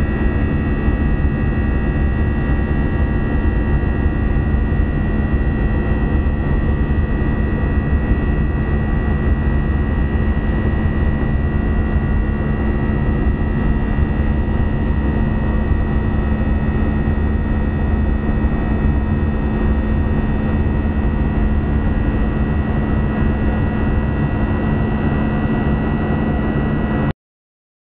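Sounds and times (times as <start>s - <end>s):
jet engine drone: 0.0s - 27.1s
steady high whine: 0.0s - 27.1s.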